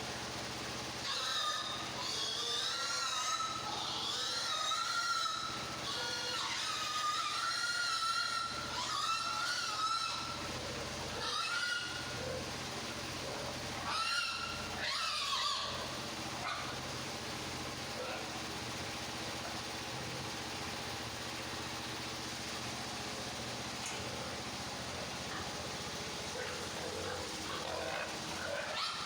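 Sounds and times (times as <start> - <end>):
steady low hum: 0.0 - 29.0
pigs squealing: 0.5 - 29.0.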